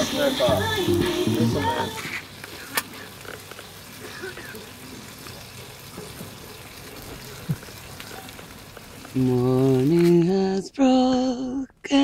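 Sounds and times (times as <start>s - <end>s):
steaks sizzling in a pan: 0.0s - 10.3s.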